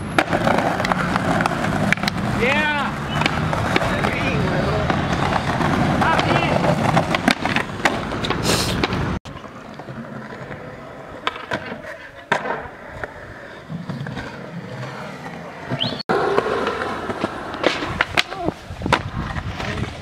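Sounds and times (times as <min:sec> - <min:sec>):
skateboard wheels rolling on pavement: 0:00.0 - 0:20.0
skateboard clacks: 0:00.1 - 0:13.2, 0:13.8 - 0:20.0.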